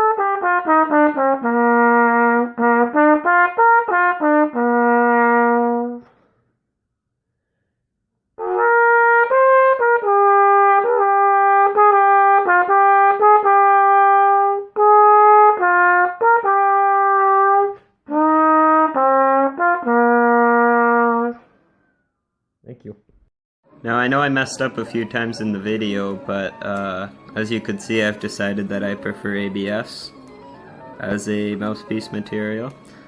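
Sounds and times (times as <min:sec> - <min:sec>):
trumpet playing tongued notes: 0:00.0 - 0:06.2, 0:08.4 - 0:21.5, 0:23.8 - 0:33.0.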